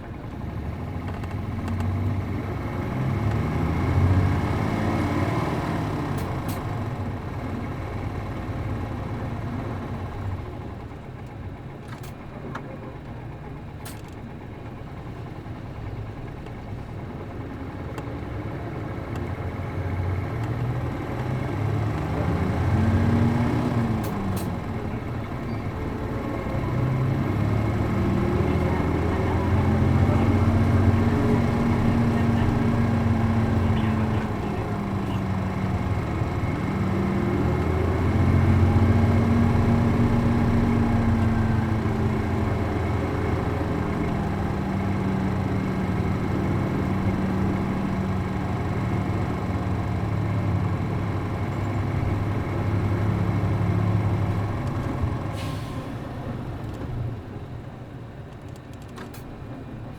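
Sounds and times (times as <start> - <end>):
diesel bus engine: 0.0 - 59.9.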